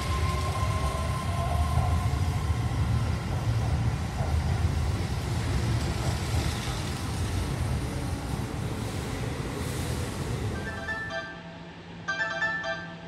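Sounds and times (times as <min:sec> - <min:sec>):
electric train wheels rumbling: 0:00.0 - 0:12.7.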